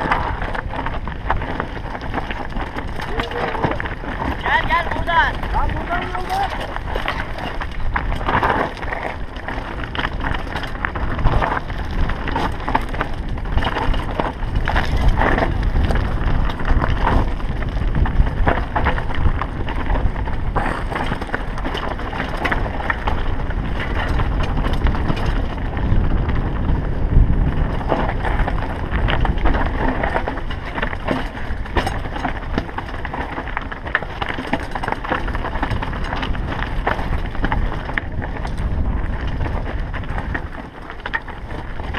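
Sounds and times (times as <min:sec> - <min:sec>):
bike rattling over rocks: 0:00.0 - 0:41.9
bike tyres rumbling on stones: 0:00.0 - 0:41.9
wind buffeting microphone: 0:00.0 - 0:41.9.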